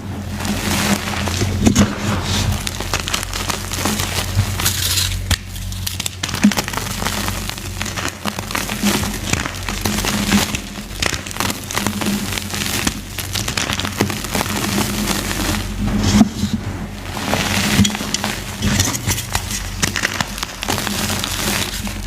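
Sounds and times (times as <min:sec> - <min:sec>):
chalk crunching: 0:00.0 - 0:22.0.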